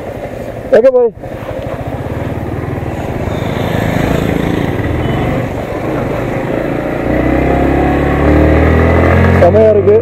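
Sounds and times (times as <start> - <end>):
motorcycle engine pulling away: 1.2 - 9.8.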